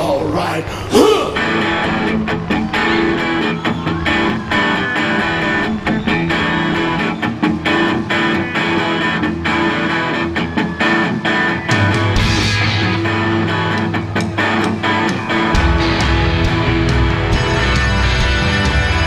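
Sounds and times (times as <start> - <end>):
electric guitar through amplifier: 0.0 - 19.0.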